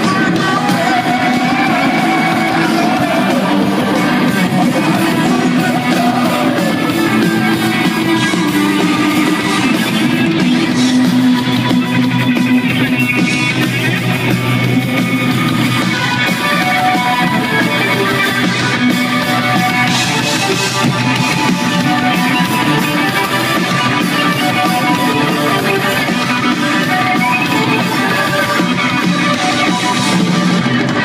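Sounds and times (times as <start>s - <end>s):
driving drum kit: 0.0s - 31.0s
electric guitars: 0.0s - 31.0s
live rock band playing: 0.0s - 31.0s.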